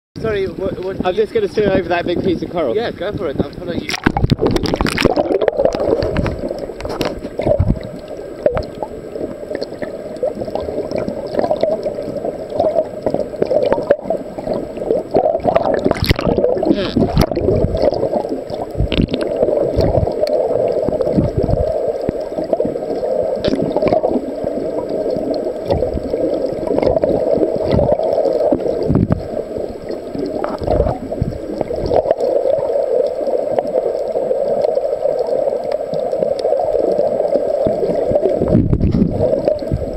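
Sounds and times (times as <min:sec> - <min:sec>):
underwater gurgling and sloshing: 0:00.2 - 0:39.9.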